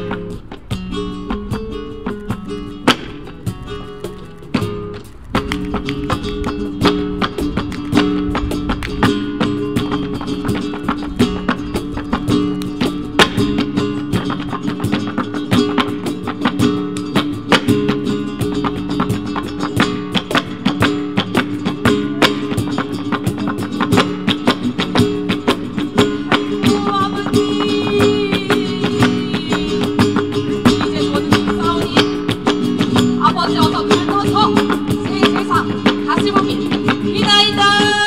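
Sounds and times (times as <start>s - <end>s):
flamenco guitar ensemble music: 0.0s - 38.0s.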